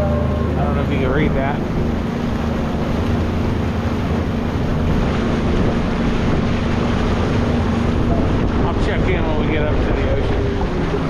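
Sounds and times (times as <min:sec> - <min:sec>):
motorboat engine humming: 0:00.0 - 0:11.0
water rushing past hull: 0:00.0 - 0:11.0
wind buffeting microphone: 0:00.0 - 0:11.0.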